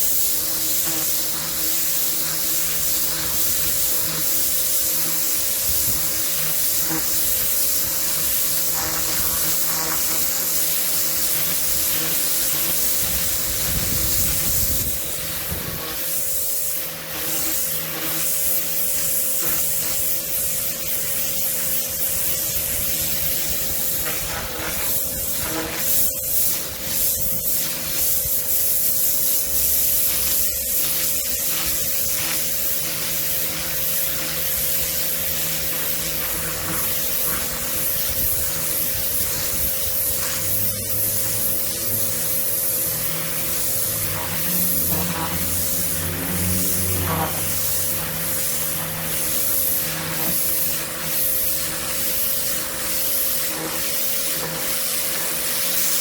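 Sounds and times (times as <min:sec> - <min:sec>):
pressure washer spraying water: 0:00.0 - 0:56.0.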